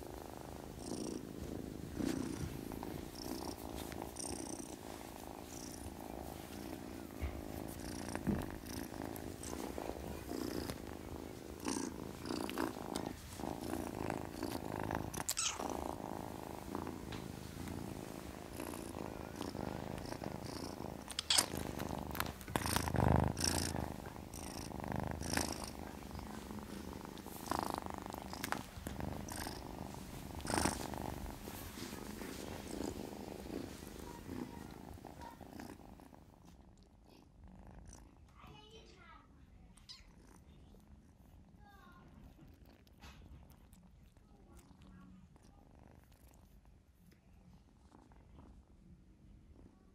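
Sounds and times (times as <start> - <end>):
kitten purring: 0.0 - 49.9.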